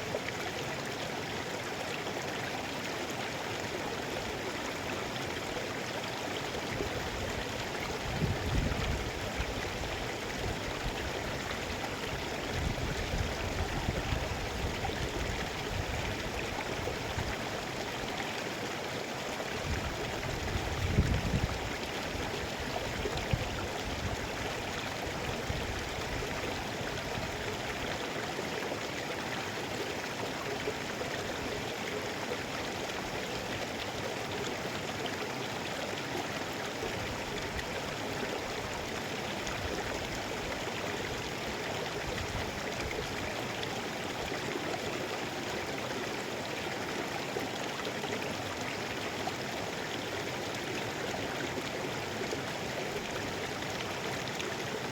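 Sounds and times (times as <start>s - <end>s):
river rushing over rocks: 0.0s - 54.9s.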